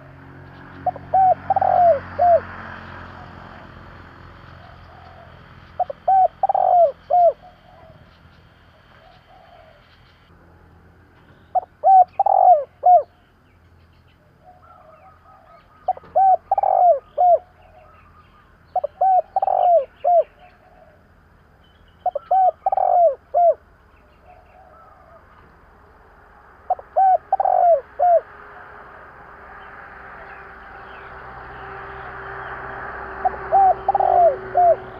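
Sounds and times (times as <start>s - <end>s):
dove cooing: 0.0s - 10.0s, 11.5s - 13.2s, 14.3s - 21.1s, 22.0s - 25.4s, 26.6s - 30.9s, 32.0s - 34.9s.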